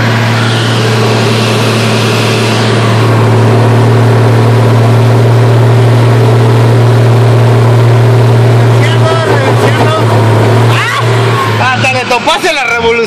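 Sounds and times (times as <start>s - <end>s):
truck engine driving off-road: 0.0s - 13.0s.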